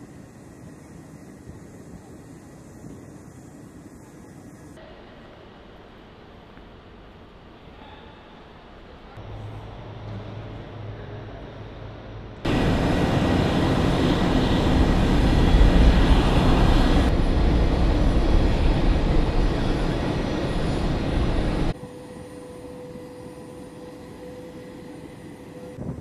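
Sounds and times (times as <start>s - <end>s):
aircraft engine roar: 0.0s - 26.0s.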